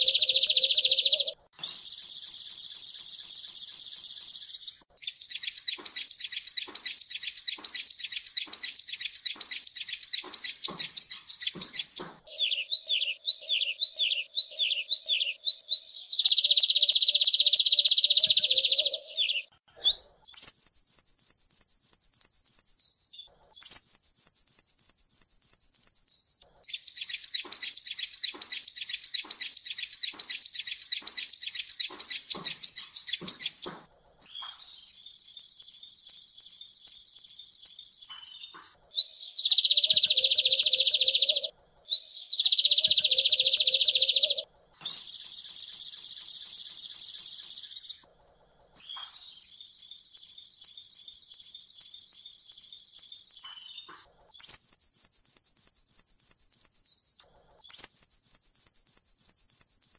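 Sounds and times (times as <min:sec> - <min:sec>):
bird song with rapid trills: 0:00.0 - 0:59.9.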